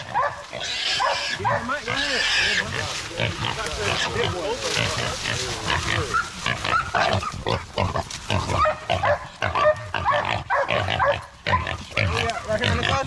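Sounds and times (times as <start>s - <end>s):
hog squealing and grunting: 0.0s - 13.0s.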